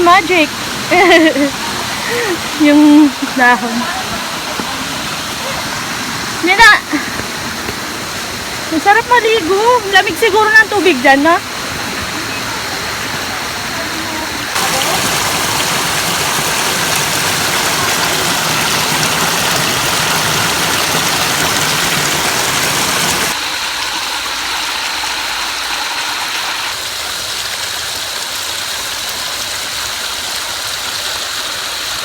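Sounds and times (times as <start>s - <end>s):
waterfall and stream rushing: 0.0s - 32.0s.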